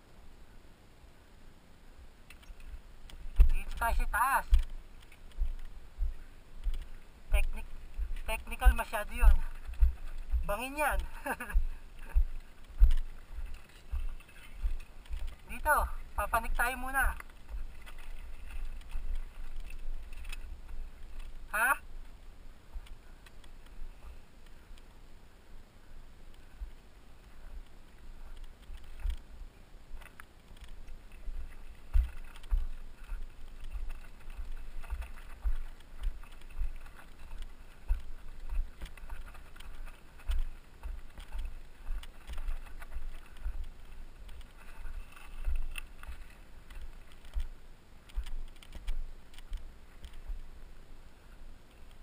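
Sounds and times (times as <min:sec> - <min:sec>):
footsteps on gravelly ground: 0:02.6 - 0:24.2, 0:30.0 - 0:50.4.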